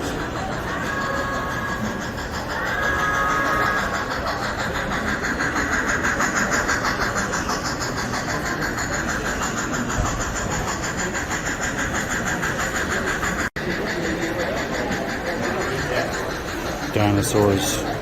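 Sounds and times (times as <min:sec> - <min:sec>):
model locomotive chugging: 0:00.0 - 0:18.0.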